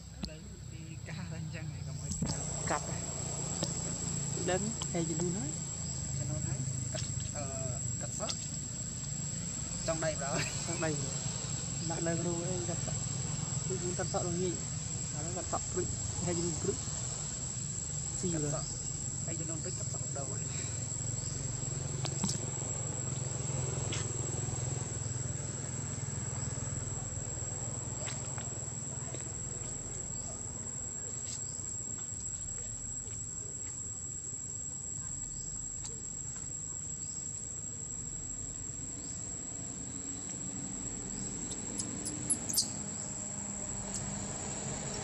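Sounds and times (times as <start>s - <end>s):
insects droning high-pitched whine: 0.0s - 45.0s.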